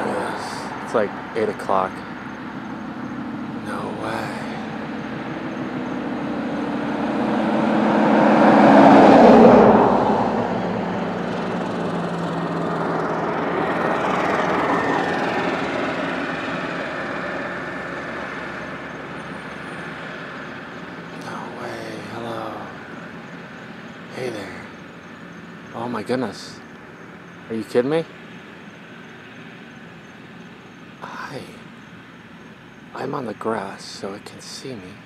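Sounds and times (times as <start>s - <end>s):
vehicle passing close by: 0.0s - 33.1s
fainter vehicle passing: 0.0s - 35.0s.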